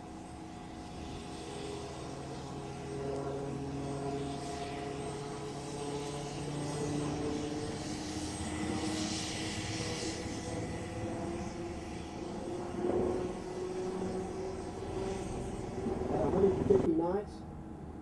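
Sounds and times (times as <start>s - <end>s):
helicopter drone in flight: 0.0s - 18.0s.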